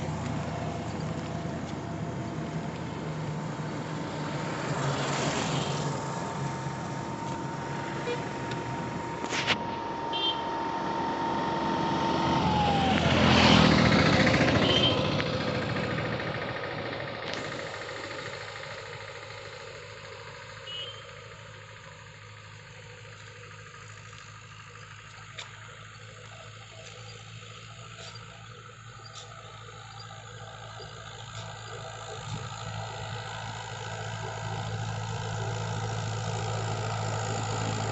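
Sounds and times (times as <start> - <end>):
road traffic engines: 0.0 - 37.9.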